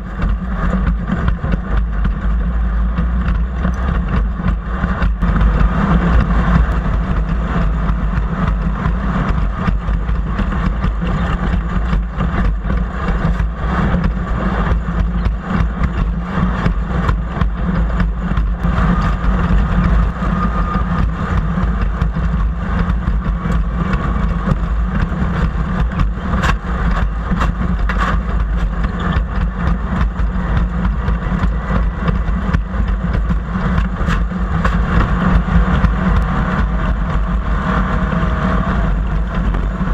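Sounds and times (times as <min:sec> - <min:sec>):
engine running with low rumble: 0:00.0 - 0:39.9.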